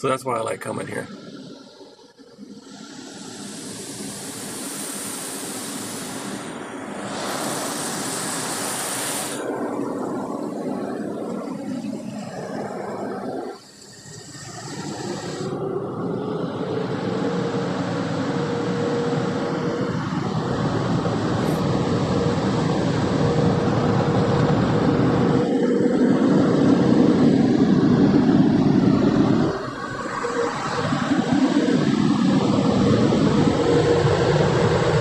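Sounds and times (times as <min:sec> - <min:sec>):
car wash air blowers: 0:02.6 - 0:35.0.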